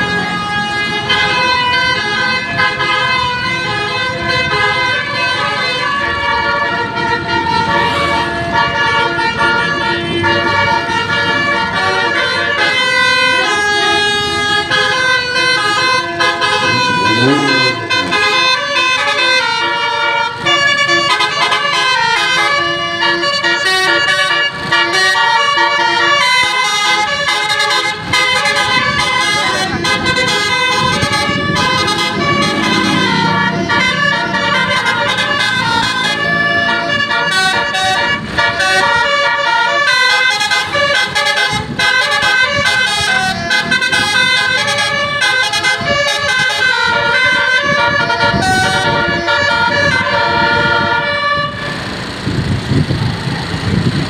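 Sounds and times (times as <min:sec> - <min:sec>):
musical air horn playing a tune: 0:00.0 - 0:51.7.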